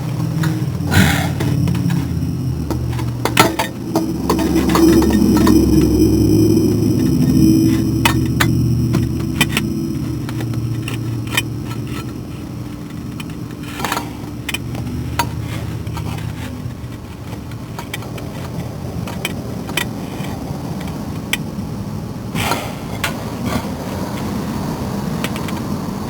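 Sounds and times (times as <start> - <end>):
metal tools clinking and scraping: 0.0 - 21.0
steady low rumble: 0.0 - 26.0.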